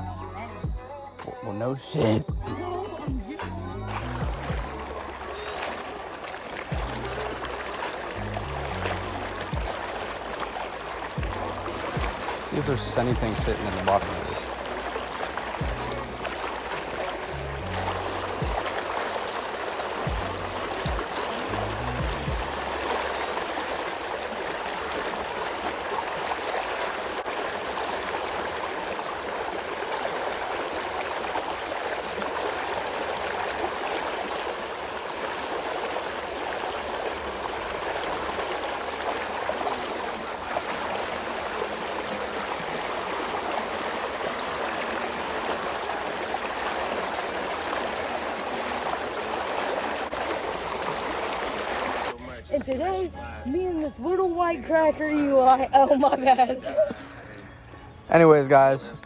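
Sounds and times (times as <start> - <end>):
creek water running: 0.0 - 59.0.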